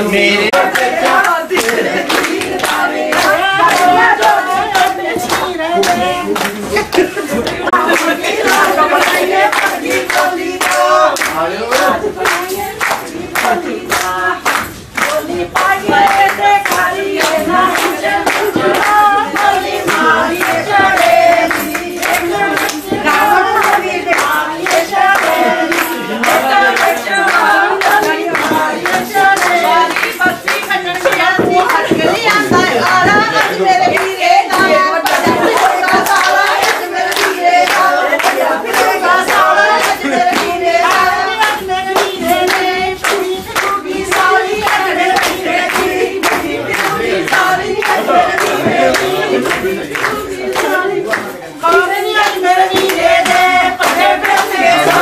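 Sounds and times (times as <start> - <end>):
rhythmic hand-clapping: 0.0 - 55.0
women singing together: 0.0 - 55.0.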